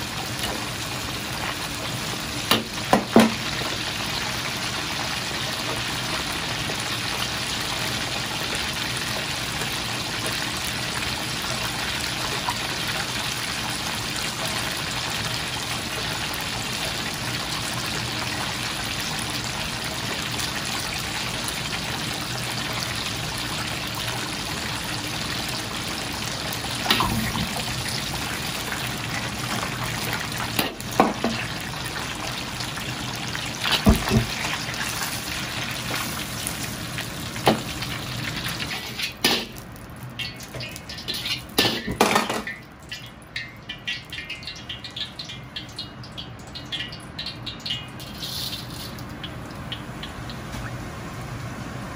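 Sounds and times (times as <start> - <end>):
hot oil sizzling in wok: 0.0 - 51.9.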